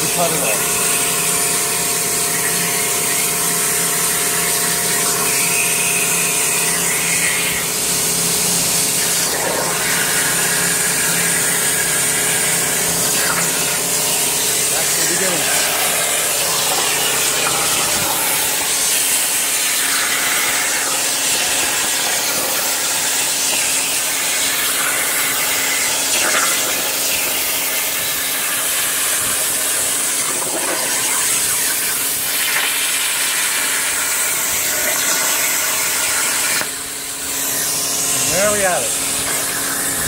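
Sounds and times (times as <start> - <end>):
plasma torch hissing: 0.0 - 1.3, 2.3 - 36.7
steady machine hum: 0.0 - 40.0.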